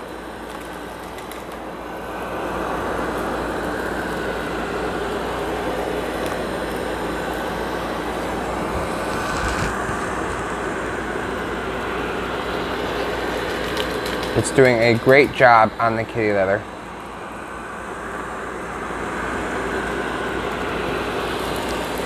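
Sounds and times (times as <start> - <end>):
robot vacuum motor and airflow: 0.0 - 22.0.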